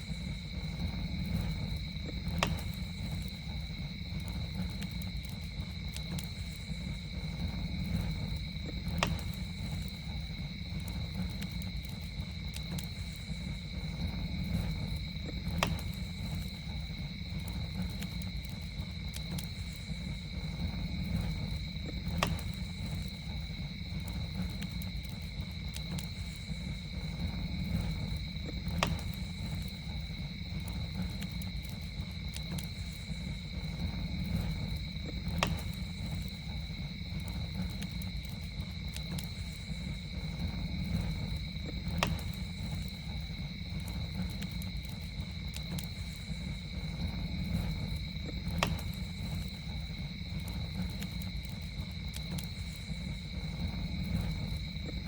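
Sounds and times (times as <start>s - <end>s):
campfire rumble and pops: 0.0s - 55.0s
night insects chorus: 0.0s - 55.0s.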